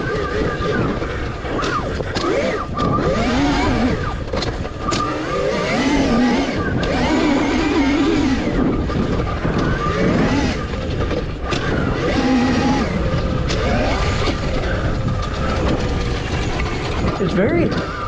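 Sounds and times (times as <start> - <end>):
electric motorbike motor whine: 0.0 - 18.0.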